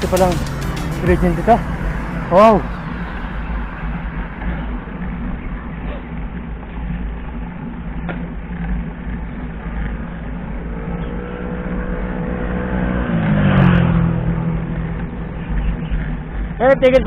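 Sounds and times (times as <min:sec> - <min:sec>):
vehicle passing close by: 0:00.0 - 0:17.0
wind rumble on microphone: 0:01.0 - 0:17.0.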